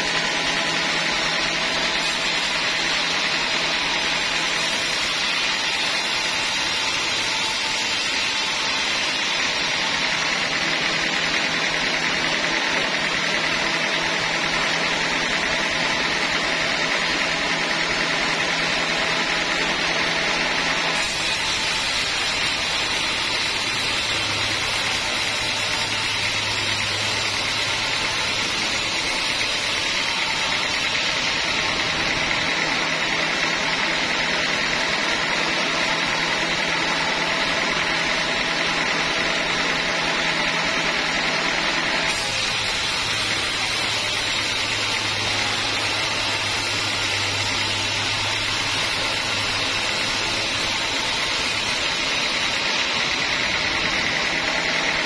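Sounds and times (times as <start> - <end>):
band saw mill sawing logs: 0.0 - 55.0.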